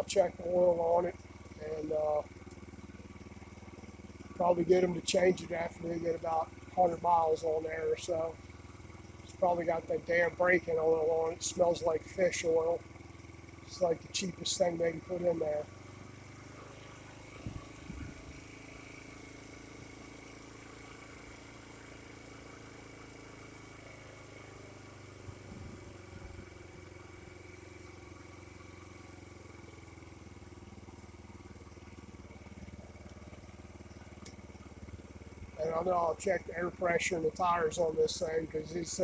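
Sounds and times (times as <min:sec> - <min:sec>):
scooter engine idling: 0:00.0 - 0:39.0.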